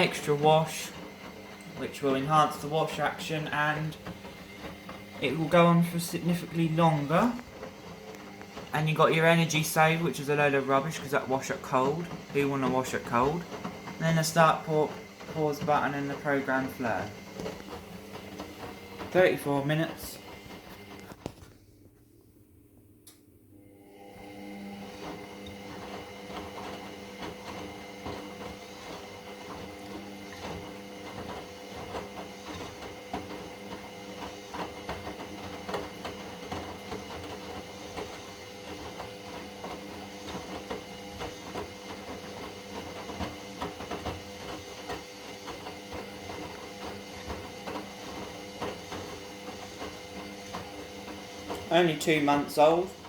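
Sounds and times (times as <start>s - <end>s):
washing machine motor whine: 0.0s - 53.0s.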